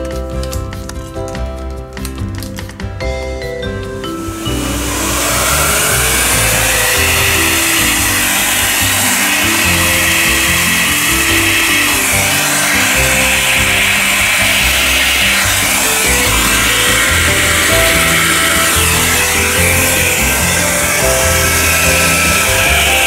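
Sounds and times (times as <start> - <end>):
background music: 0.0 - 23.0
vacuum cleaner running: 4.0 - 23.0.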